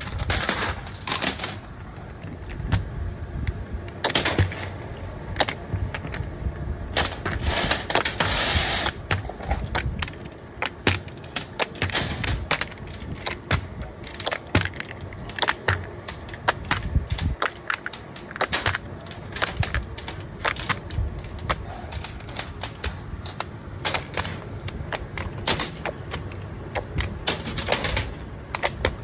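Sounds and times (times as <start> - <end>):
low factory rumble: 0.0 - 29.0
small hard objects clicking: 5.3 - 29.0.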